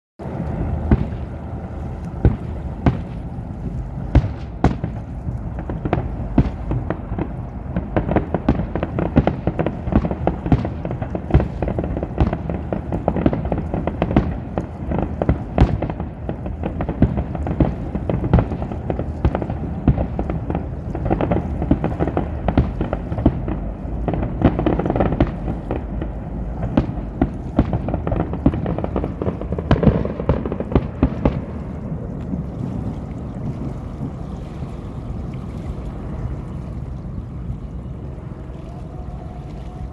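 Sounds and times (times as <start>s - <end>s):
fireworks booming and crackling: 0.2s - 34.7s
continuous low rumble: 0.2s - 39.9s.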